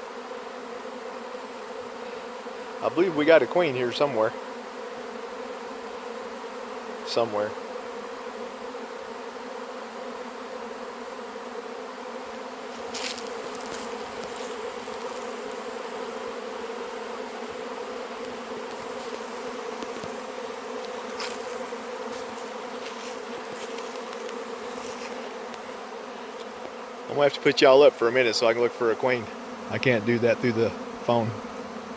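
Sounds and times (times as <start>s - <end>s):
bee swarm buzzing: 0.0s - 31.9s.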